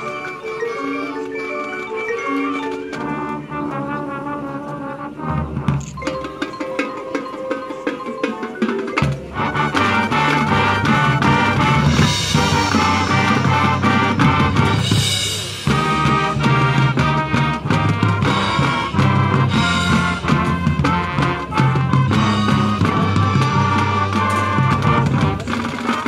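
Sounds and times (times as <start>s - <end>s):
mallet percussion: 0.0s - 3.7s, 5.8s - 26.0s
marching band brass: 0.0s - 26.0s.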